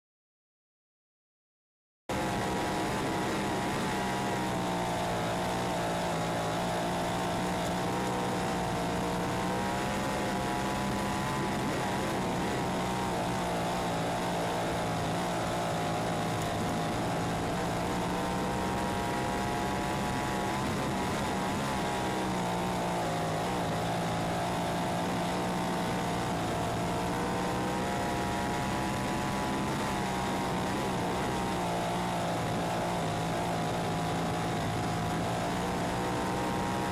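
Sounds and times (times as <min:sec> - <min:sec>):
racing car engine: 0:02.1 - 0:36.9.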